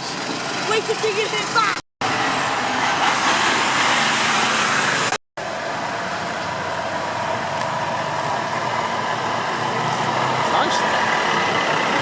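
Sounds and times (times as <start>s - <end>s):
trucks driving past: 0.0s - 12.0s.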